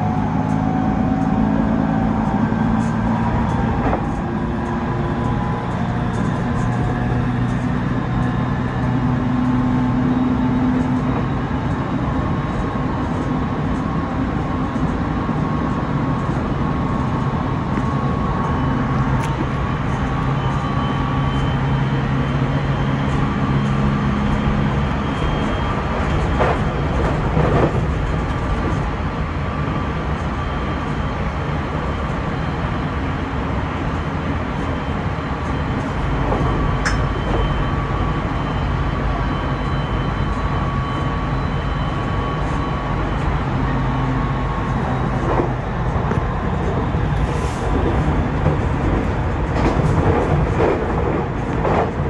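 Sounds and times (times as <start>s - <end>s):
train drive hum: 0.0s - 52.0s
train wheels rumbling on rail: 0.0s - 52.0s.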